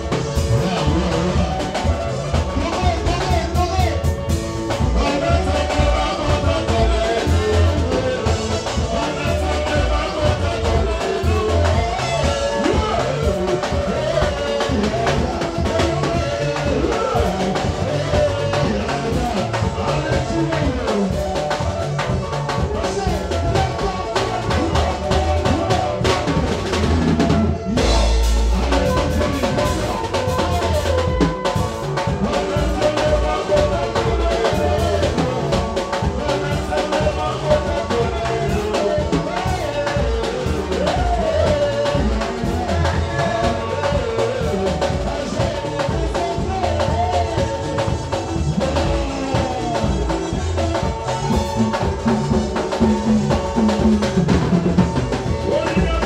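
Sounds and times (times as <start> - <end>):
electric guitars: 0.0 - 56.0
kick and snare drum beat: 0.0 - 56.0
live band playing: 0.0 - 56.0.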